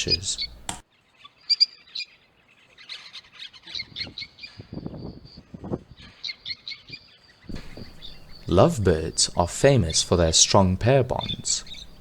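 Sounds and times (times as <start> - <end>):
louder lower bird calls: 0.0 - 12.0
small birds chirping: 0.0 - 12.0.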